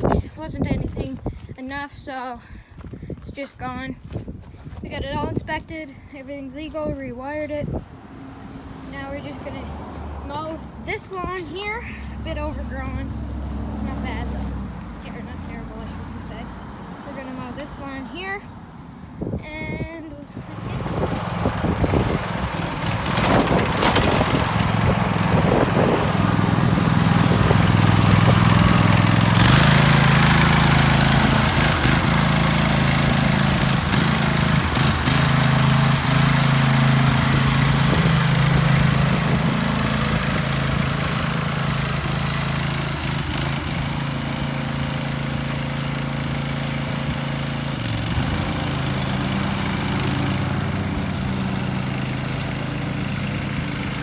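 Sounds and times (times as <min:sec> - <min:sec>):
riding lawn mower cutting grass: 0:06.0 - 0:54.0.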